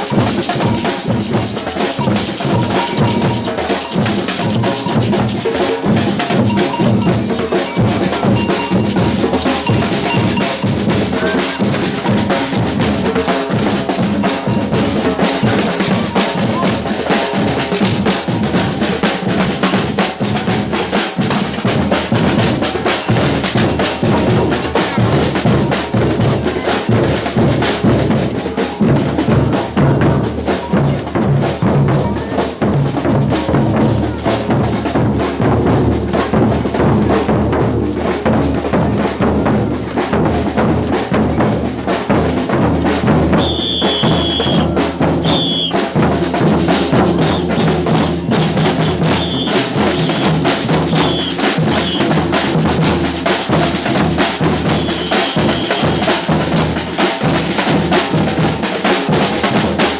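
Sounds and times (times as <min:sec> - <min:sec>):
samba percussion ensemble: 0:00.0 - 0:59.9
snare drums: 0:00.0 - 0:59.9.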